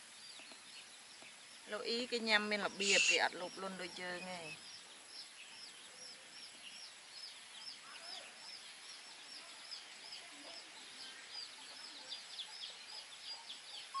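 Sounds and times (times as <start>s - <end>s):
birds chirping: 0.0s - 14.0s
fainter lower bird calls: 0.0s - 14.0s.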